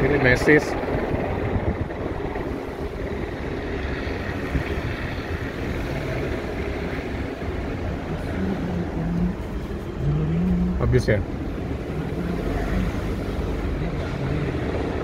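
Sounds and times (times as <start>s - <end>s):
car driving on city street: 0.0s - 15.0s.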